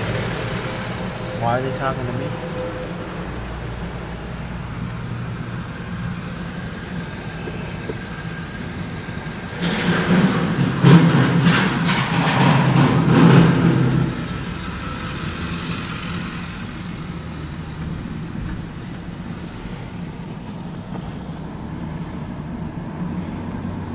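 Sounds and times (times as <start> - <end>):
car road and engine noise: 0.0 - 23.9.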